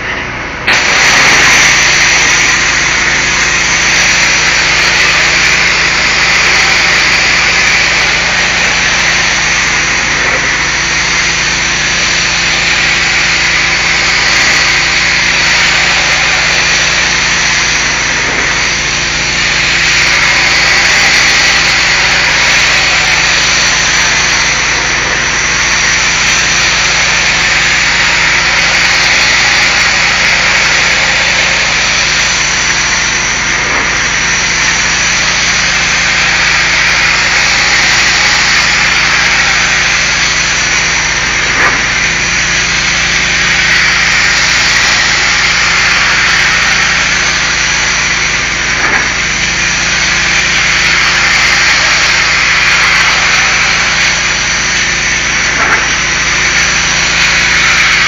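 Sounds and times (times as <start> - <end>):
pressure washer spray hissing: 0.6 - 58.0.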